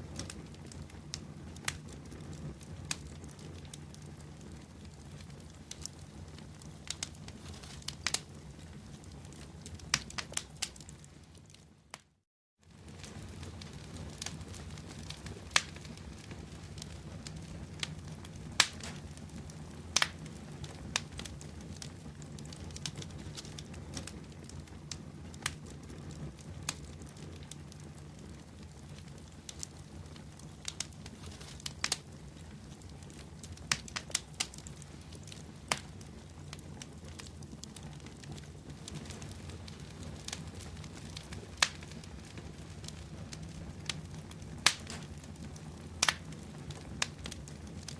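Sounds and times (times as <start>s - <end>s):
bonfire crackling and popping: 0.0s - 47.9s.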